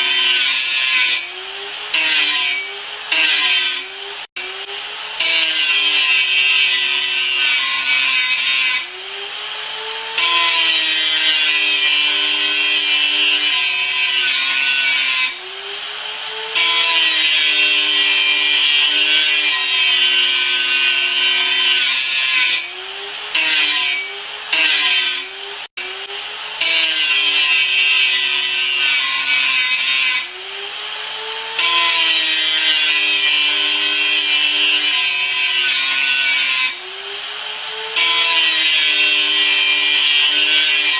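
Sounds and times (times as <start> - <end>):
angle grinder cutting: 0.0 - 40.9.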